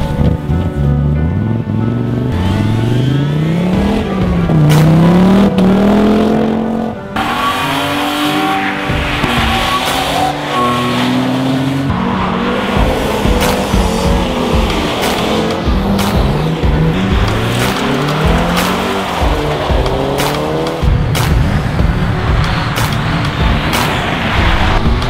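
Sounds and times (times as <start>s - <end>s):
car engines revving: 0.0s - 25.0s
music: 0.0s - 25.0s.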